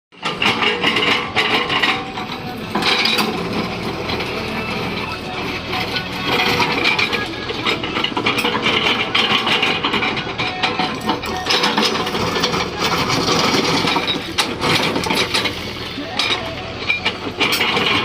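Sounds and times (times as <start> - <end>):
excavator diesel engine running: 0.1 - 18.0
metallic clanking and scraping: 0.2 - 18.0.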